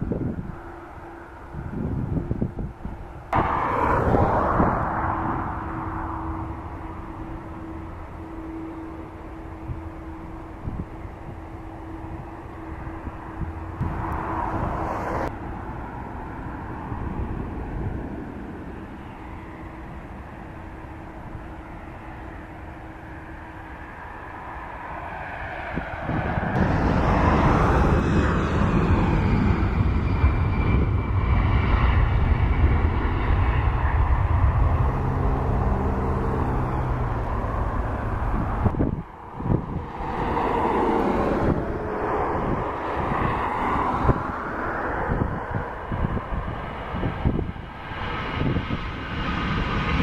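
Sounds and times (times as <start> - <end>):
jet engines at takeoff: 0.0 - 50.0
jet engines rolling on runway: 0.0 - 50.0.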